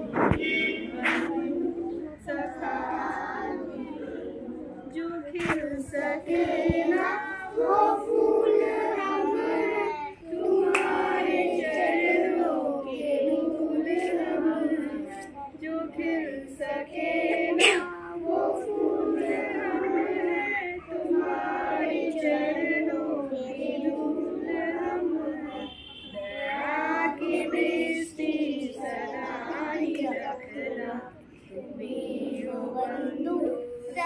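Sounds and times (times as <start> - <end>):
children singing in unison: 0.0 - 34.0.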